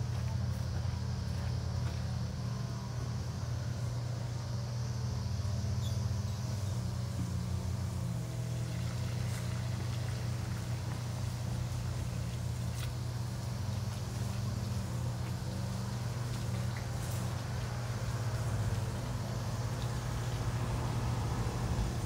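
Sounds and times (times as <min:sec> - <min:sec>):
low mechanical engine hum: 0:00.0 - 0:22.0.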